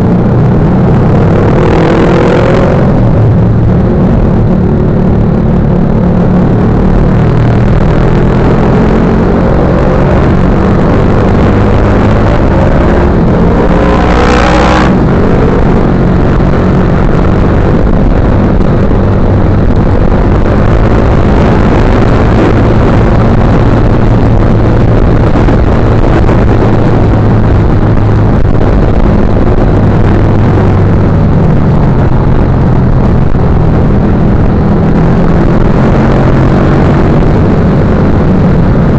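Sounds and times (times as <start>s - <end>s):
engine revving: 0.0s - 38.9s
motorcycle engine running: 0.0s - 38.9s.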